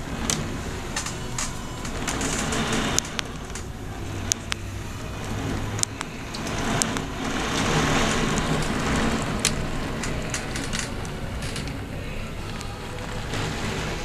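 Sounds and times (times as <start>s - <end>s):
heavy rain downpour: 0.0s - 14.0s
raindrops ticking: 0.0s - 14.0s
wind: 0.0s - 14.0s.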